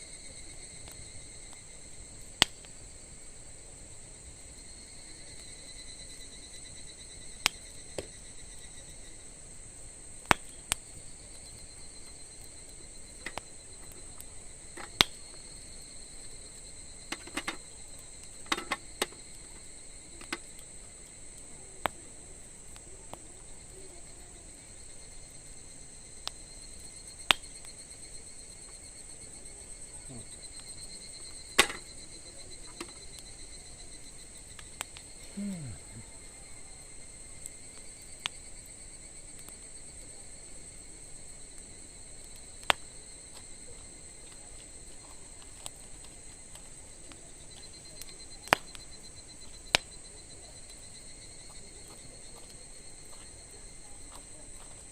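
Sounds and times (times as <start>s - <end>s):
campfire crackling and popping: 0.0s - 54.9s
crickets trilling: 0.0s - 54.9s.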